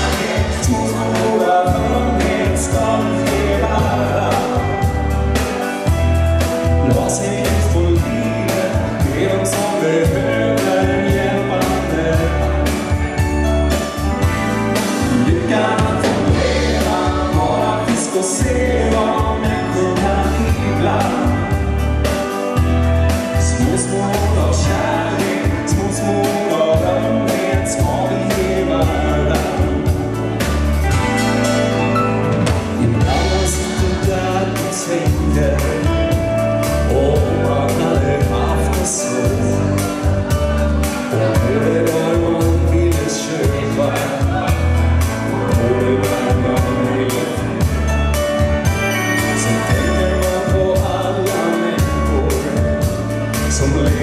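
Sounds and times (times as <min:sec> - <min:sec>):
man singing: 0:00.0 - 0:31.7, 0:32.4 - 0:54.0
live band playing: 0:00.0 - 0:54.0.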